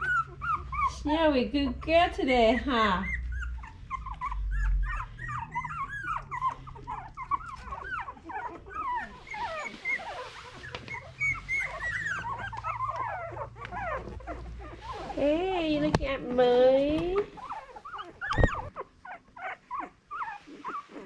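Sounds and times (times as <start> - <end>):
puppies squeaking and whimpering: 0.0 - 21.0.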